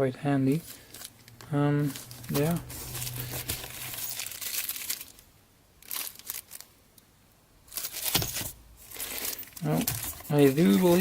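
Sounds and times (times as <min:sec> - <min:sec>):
plastic bags crinkling: 0:00.6 - 0:06.7, 0:07.7 - 0:11.0.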